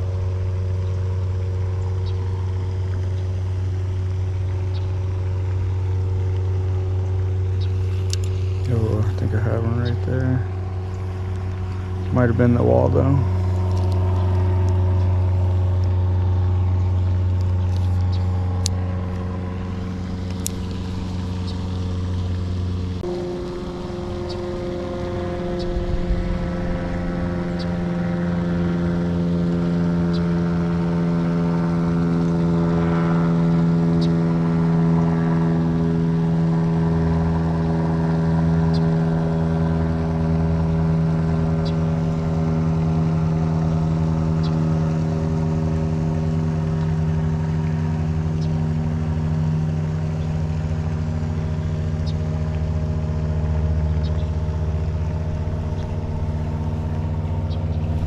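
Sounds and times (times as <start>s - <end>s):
motor engine running: 0.0s - 58.0s.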